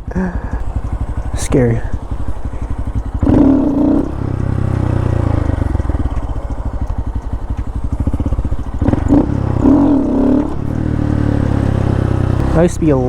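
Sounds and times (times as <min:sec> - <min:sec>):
motorcycle engine putter: 0:00.0 - 0:13.0.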